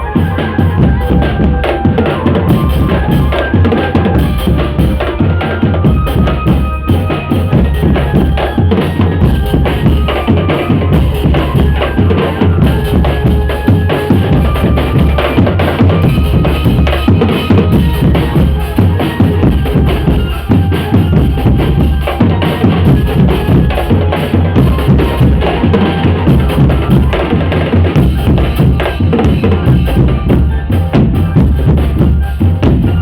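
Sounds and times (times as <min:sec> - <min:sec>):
drum band playing fast beat: 0:00.0 - 0:33.0.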